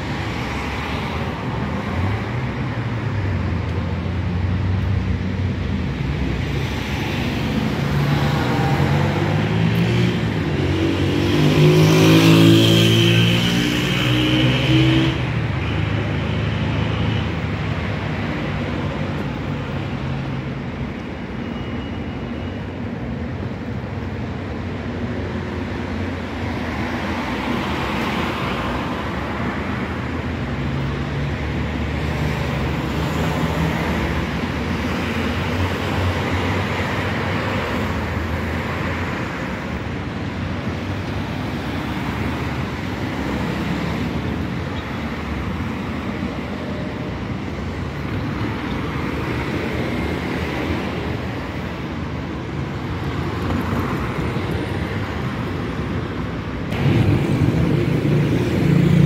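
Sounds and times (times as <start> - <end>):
cars driving past: 0.0 - 21.8, 24.5 - 59.0
steady road noise: 0.0 - 59.0.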